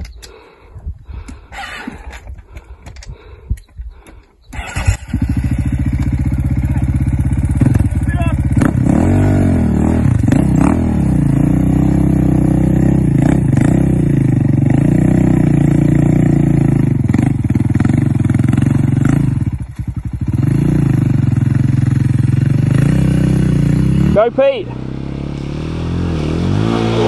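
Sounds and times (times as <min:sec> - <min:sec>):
motorcycle engine revving: 0:04.5 - 0:27.0.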